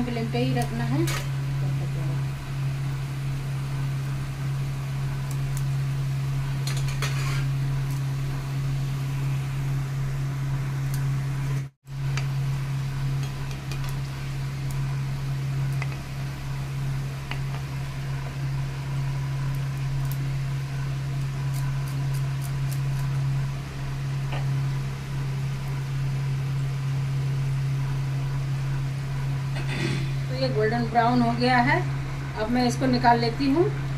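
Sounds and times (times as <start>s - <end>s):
oil sizzling: 0.0s - 33.9s.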